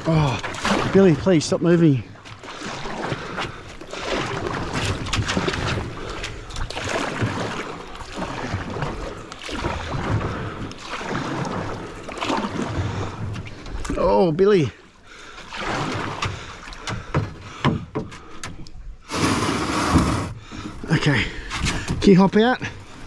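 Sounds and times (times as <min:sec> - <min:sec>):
water sloshing and splashing: 0:00.0 - 0:18.6
knocks and rustles in boat: 0:00.3 - 0:14.2, 0:15.3 - 0:23.0.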